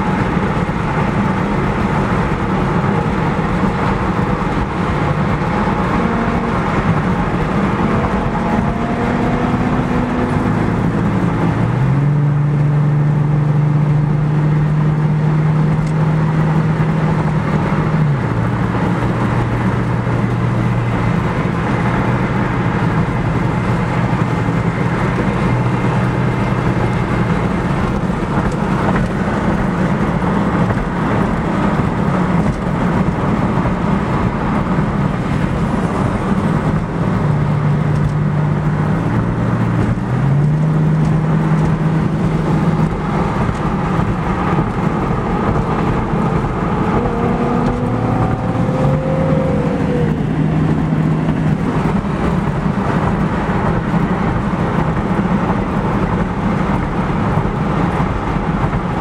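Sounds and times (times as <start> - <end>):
car engine: 0.0 - 59.0
tyre and road noise: 0.0 - 59.0.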